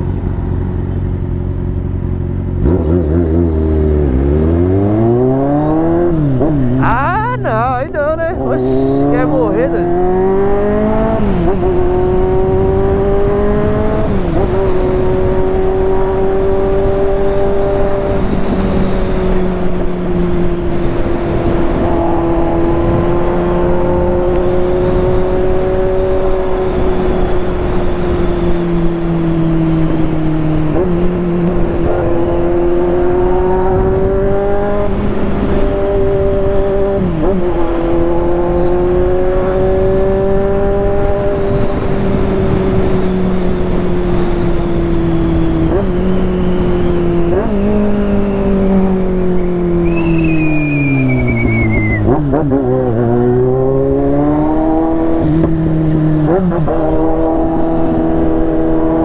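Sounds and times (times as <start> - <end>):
motorcycle engine at high revs: 0.0 - 7.4, 8.2 - 59.0.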